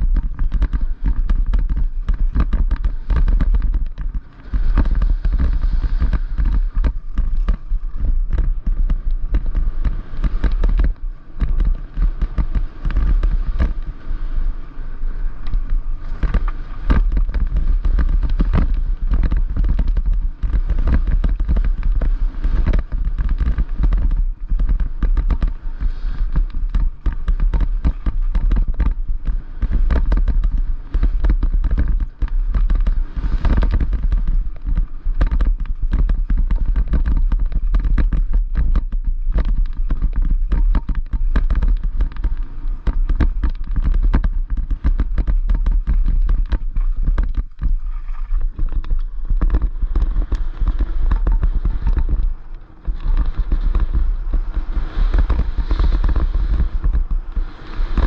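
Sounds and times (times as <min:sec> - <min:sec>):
bike rattling over bumps: 0:00.0 - 0:58.0
wind buffeting microphone: 0:00.0 - 0:58.0.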